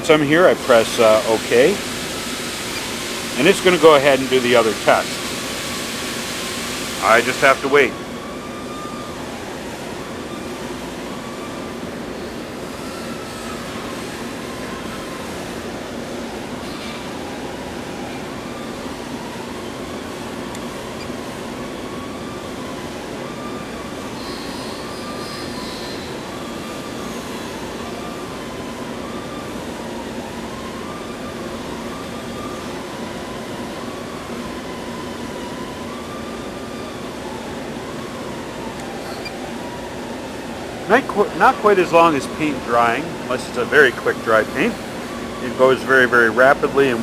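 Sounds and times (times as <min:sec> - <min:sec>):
machinery and ventilation hum: 0:00.0 - 0:47.0.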